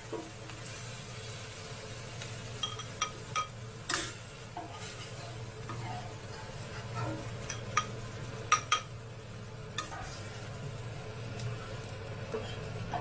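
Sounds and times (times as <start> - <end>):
faint sizzling: 0.0 - 13.0.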